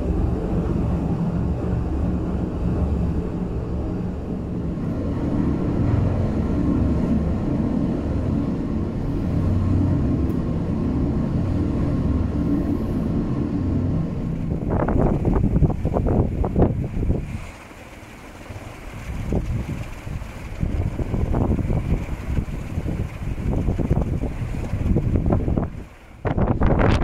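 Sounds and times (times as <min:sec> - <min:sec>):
sharp wind thumps: 0:00.0 - 0:17.5, 0:19.0 - 0:27.0
wind buffeting microphone: 0:00.0 - 0:27.0.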